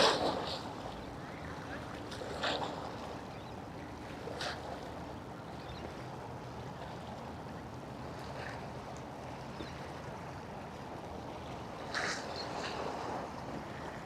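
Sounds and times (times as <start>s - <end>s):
boat engine hum: 0.0s - 14.0s
water noise: 0.0s - 14.0s.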